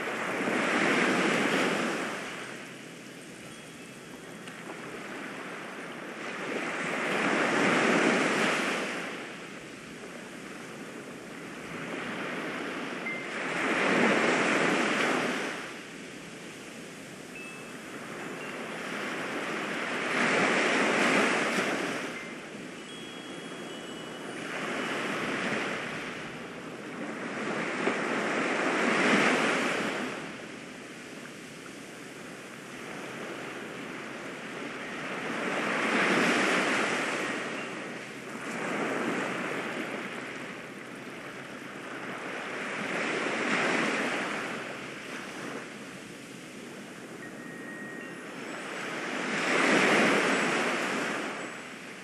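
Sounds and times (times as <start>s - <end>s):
ocean waves washing: 0.0s - 52.0s.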